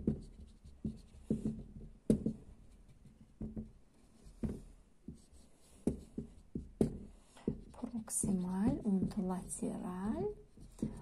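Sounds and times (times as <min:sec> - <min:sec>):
marker writing on whiteboard: 0:00.0 - 0:11.0
pen tapping on board: 0:00.0 - 0:11.0.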